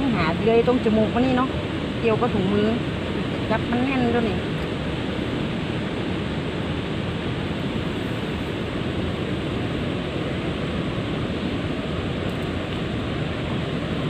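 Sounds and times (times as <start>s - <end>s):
water roaring over a weir: 0.0s - 14.0s.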